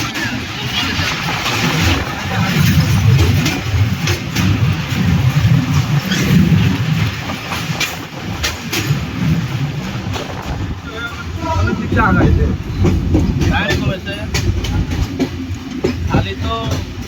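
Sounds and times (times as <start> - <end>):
diesel train rumbling past: 0.0 - 17.0
wheels clicking over rail joints: 0.0 - 17.0.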